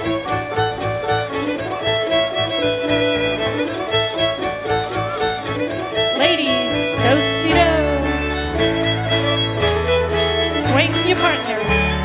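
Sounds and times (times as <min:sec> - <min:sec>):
fiddle playing a reel: 0:00.0 - 0:12.0
piano keeping a driving beat: 0:00.0 - 0:12.0.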